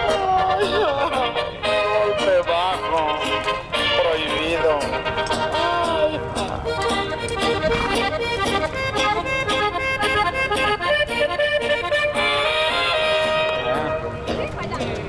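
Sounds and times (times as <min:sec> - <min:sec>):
accordion playing quick notes: 0:00.0 - 0:14.7
band accompaniment: 0:00.0 - 0:15.0.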